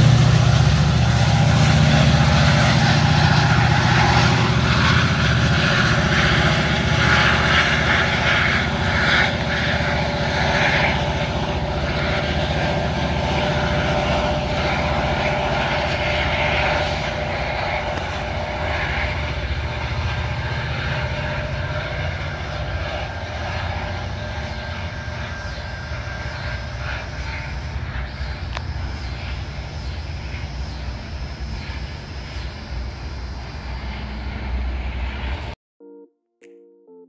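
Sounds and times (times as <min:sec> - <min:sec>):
diesel locomotive engine drone: 0:00.0 - 0:35.6.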